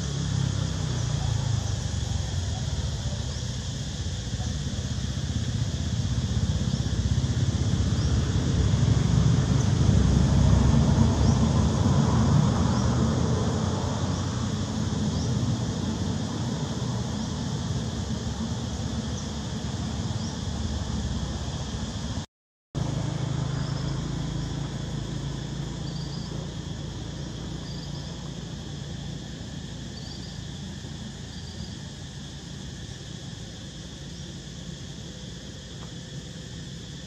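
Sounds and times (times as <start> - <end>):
insect drone: 0.0 - 37.0.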